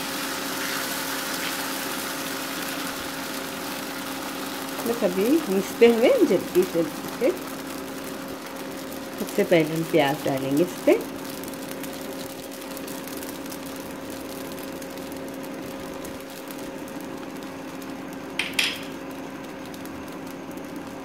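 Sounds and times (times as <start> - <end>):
electric cooktop hum: 0.0 - 21.0.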